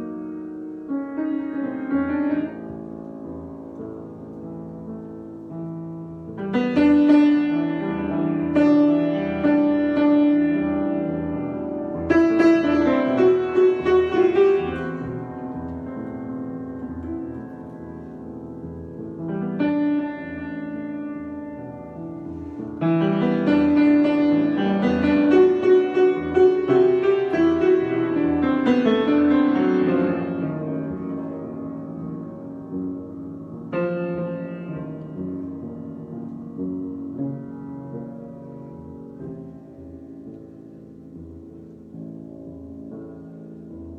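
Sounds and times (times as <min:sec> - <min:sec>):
solo piano improvisation: 0:00.0 - 0:43.9.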